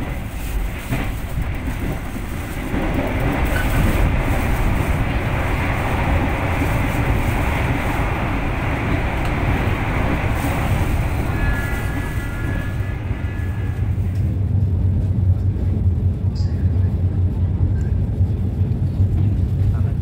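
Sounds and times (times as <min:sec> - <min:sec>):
train rumble and rail noise: 0:00.0 - 0:20.0.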